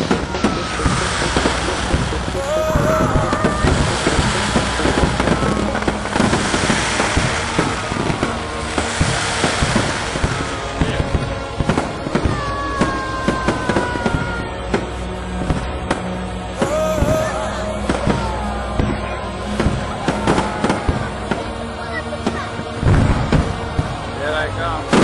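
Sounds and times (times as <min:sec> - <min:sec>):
fireworks crackling and banging: 0:00.0 - 0:25.0
hiss of burning fireworks: 0:00.0 - 0:25.0
music playing: 0:00.0 - 0:25.0.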